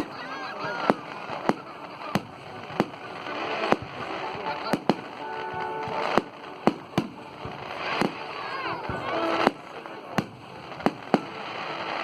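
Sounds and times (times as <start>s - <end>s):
crackling hiss: 0.0s - 12.0s.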